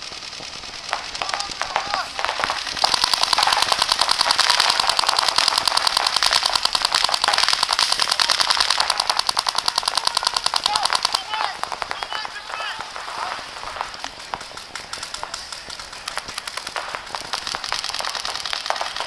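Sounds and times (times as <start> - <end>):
paintball markers firing: 0.0 - 19.0.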